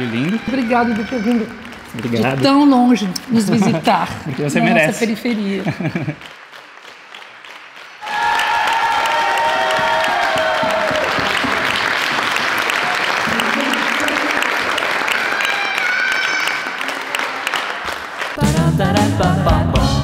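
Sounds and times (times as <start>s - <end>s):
crowd applauding: 0.0s - 18.5s.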